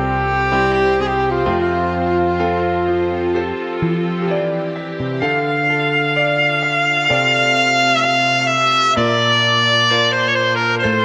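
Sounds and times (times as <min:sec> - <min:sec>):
slow background music: 0:00.0 - 0:11.0.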